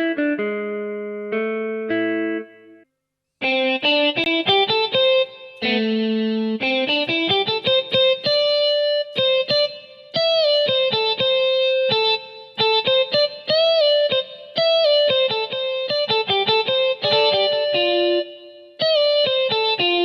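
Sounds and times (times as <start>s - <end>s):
keyboard guitar tone notes: 0.0s - 2.8s, 3.4s - 20.0s.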